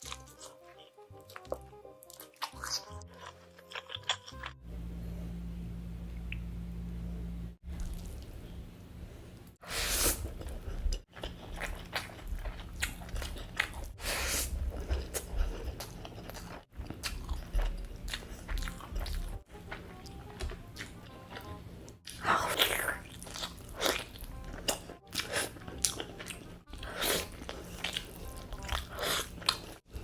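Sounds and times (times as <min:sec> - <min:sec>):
crunching and chewing food: 0:00.0 - 0:04.6, 0:07.6 - 0:08.4, 0:10.2 - 0:30.0.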